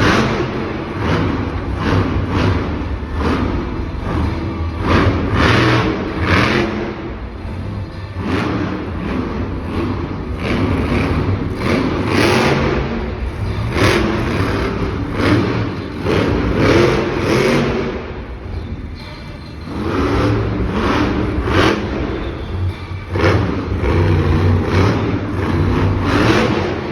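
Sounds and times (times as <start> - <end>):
low engine rumble: 0.0 - 26.9
monster truck engine revving: 0.0 - 26.9.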